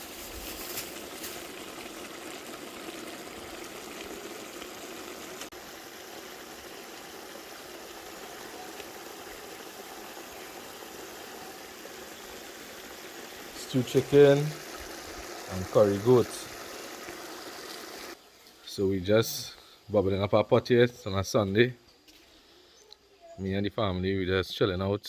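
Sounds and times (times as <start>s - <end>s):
pots bubbling on stove: 0.0s - 20.5s.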